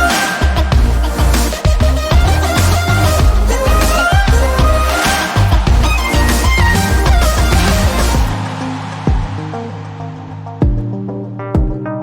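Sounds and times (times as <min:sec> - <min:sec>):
music with bass and high melody: 0:00.0 - 0:12.0.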